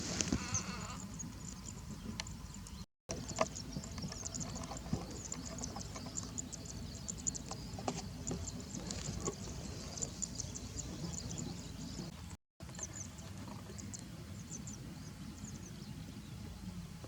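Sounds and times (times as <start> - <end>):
low steady rumble: 0.0 - 17.0
birds chirping: 0.1 - 17.0.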